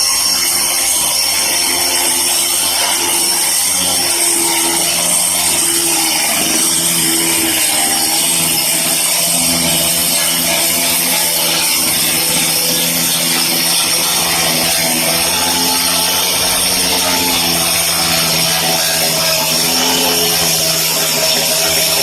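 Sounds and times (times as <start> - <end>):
cutter blade grinding masonry: 0.0 - 22.0.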